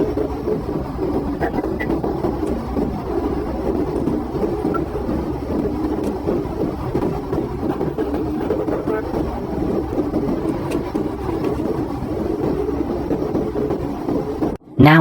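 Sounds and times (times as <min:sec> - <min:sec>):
car engine and road noise: 0:00.0 - 0:14.6.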